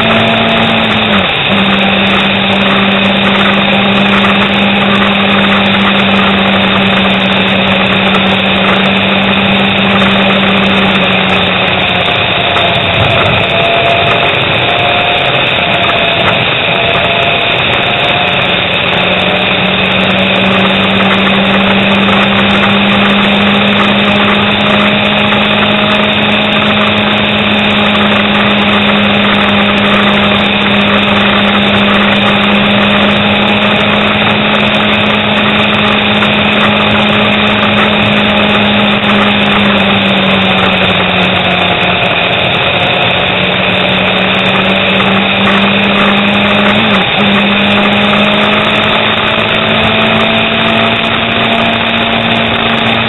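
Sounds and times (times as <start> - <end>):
motorcycle engine cruising: 0.0 - 53.0
wind and road noise: 0.0 - 53.0.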